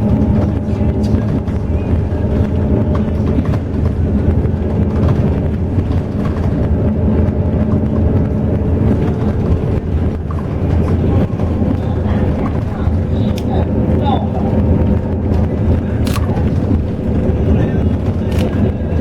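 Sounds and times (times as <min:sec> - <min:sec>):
bus engine droning: 0:00.0 - 0:19.0
road noise: 0:00.0 - 0:19.0.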